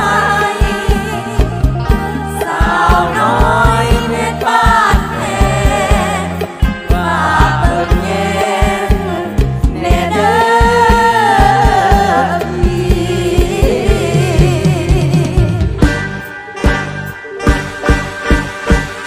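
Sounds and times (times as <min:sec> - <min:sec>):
several singers singing together: 0:00.0 - 0:15.6
live band with steady drum beat: 0:00.0 - 0:19.0.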